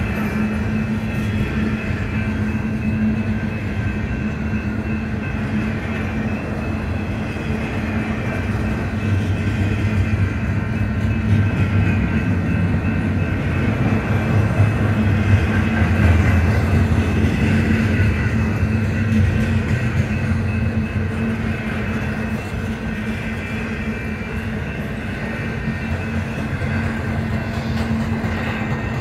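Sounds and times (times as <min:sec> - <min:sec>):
freight train wheels rumbling on rail: 0:00.0 - 0:29.0.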